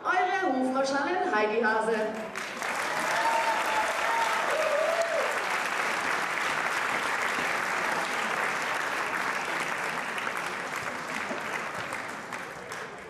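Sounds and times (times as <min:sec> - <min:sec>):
crowd applauding: 0:02.2 - 0:13.0.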